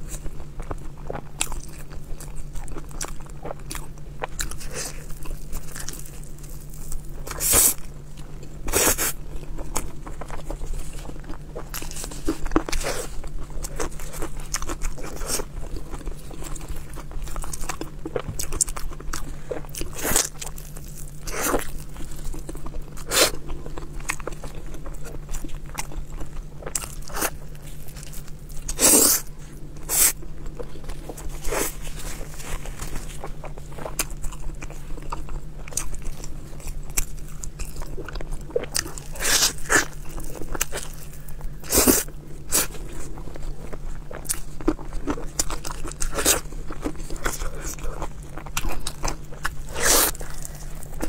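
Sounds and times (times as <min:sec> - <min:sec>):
person chewing crunchy food: 0:00.0 - 0:51.0.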